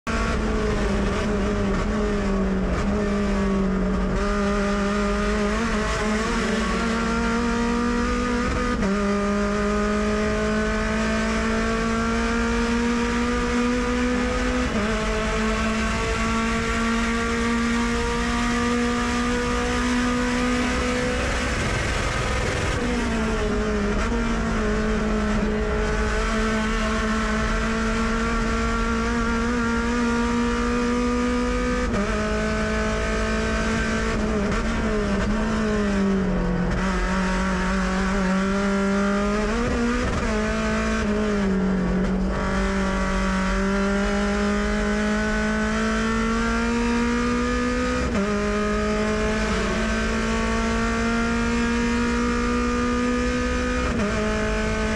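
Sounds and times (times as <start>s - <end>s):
race car engine accelerating: 0.1s - 54.9s.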